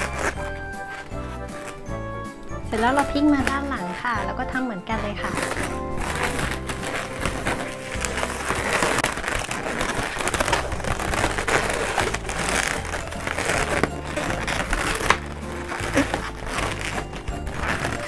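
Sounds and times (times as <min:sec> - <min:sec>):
latex crackles and pops: 0:00.0 - 0:01.8, 0:05.1 - 0:18.0
balloons rubbing and squeaking: 0:00.0 - 0:18.0.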